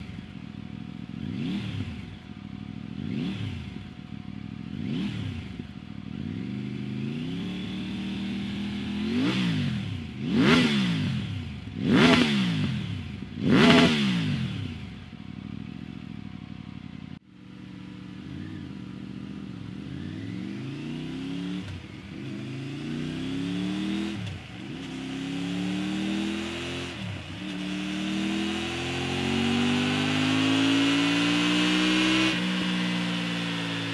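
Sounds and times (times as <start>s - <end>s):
motorcycle accelerating through gears: 0.0s - 33.9s
motorcycle engine revving: 0.0s - 33.9s.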